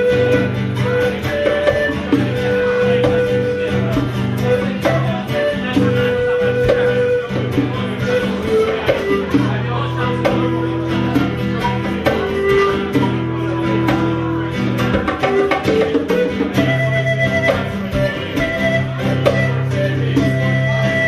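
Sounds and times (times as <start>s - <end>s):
classical guitar: 0.0s - 21.0s
pan pipes melody: 0.0s - 21.0s
bongos tapping: 0.1s - 21.0s.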